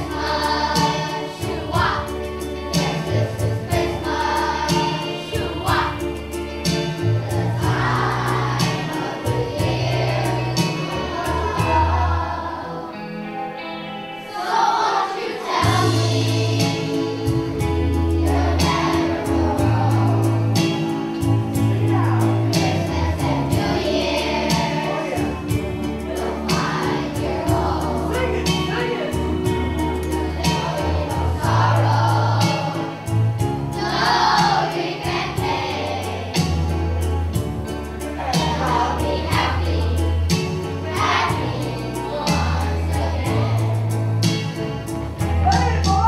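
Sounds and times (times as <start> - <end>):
children's choir singing: 0.0 - 46.0
instrumental accompaniment with bass: 0.0 - 46.0.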